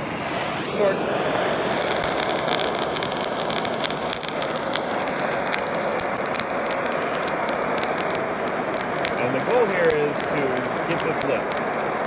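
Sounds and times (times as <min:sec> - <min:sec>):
torch flame hissing: 0:00.0 - 0:12.0
charcoal crackling and popping: 0:00.7 - 0:12.0.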